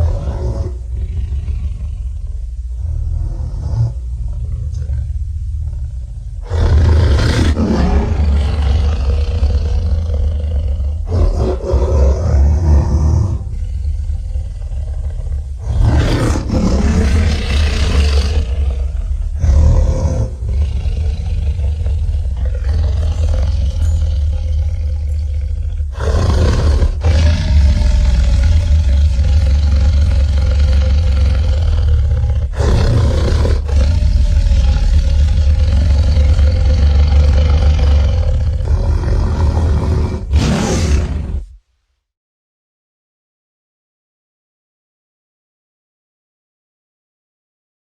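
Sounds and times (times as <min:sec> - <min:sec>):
creature roars and growls: 0:00.0 - 0:04.0, 0:06.4 - 0:41.5
deep steady rumble: 0:00.0 - 0:40.5.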